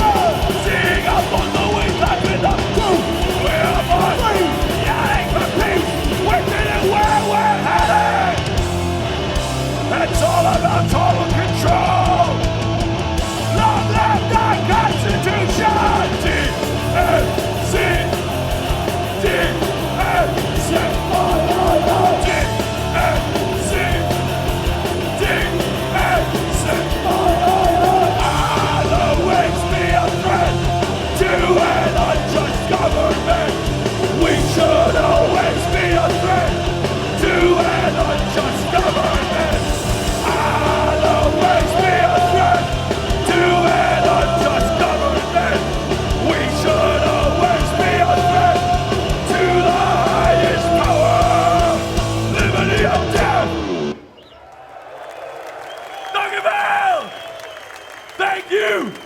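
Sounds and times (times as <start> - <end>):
shouted vocals: 0.0 - 8.6, 9.8 - 54.0, 55.8 - 59.0
punk band playing live: 0.0 - 54.0.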